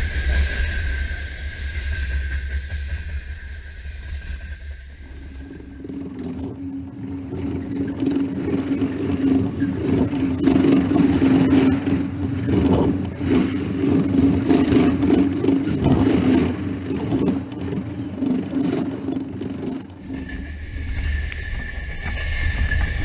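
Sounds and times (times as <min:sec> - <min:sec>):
thin high whine: 0:00.0 - 0:23.0
train wheels clattering on rails: 0:01.8 - 0:23.0.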